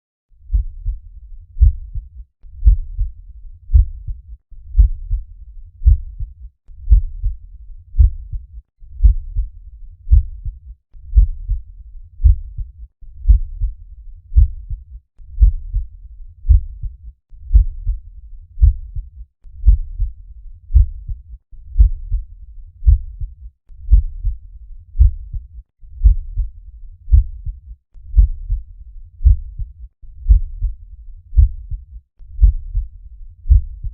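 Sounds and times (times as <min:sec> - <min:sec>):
heartbeat lub-dub: 0:00.5 - 0:11.6, 0:12.2 - 0:18.0, 0:18.6 - 0:24.4, 0:25.0 - 0:26.5, 0:27.1 - 0:32.9, 0:33.5 - 0:33.9.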